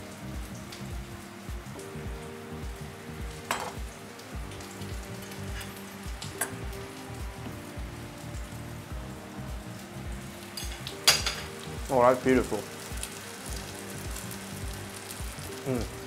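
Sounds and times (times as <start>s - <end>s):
background music with beat: 0.0s - 16.0s
light sizzling from pan: 0.0s - 16.0s.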